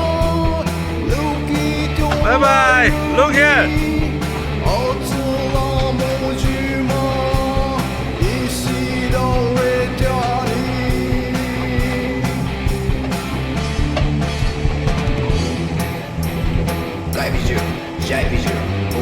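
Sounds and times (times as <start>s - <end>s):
song with guitar band: 0.0s - 19.0s.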